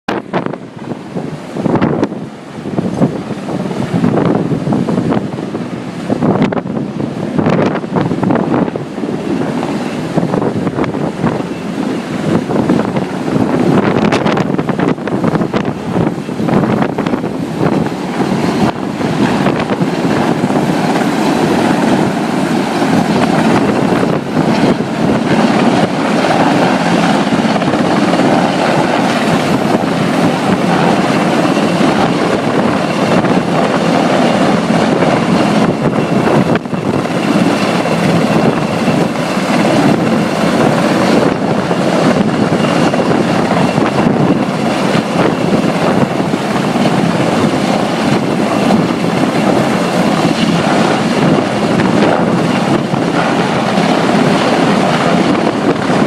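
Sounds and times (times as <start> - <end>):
helicopter rotor and turbine: 0.1 - 56.0.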